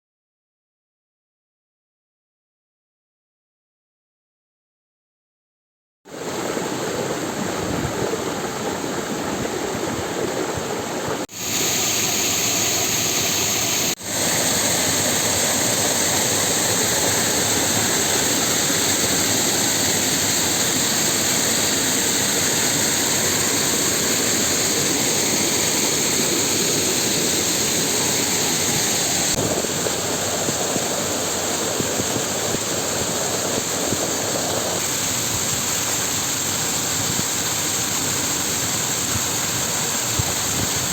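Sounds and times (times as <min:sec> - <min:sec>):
waterfall rushing: 0:06.1 - 0:40.9.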